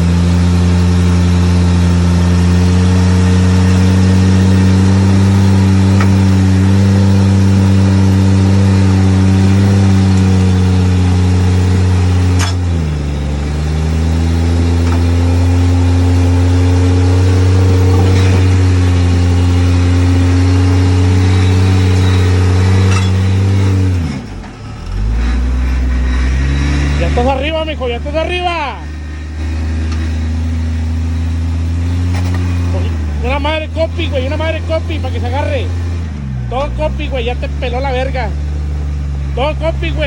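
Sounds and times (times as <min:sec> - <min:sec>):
engine running hard under load: 0:00.0 - 0:40.0.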